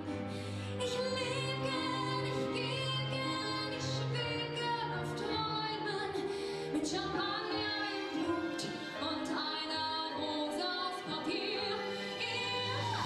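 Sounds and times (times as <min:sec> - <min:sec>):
musical accompaniment: 0:00.0 - 0:13.0
woman singing into a microphone: 0:00.8 - 0:13.0.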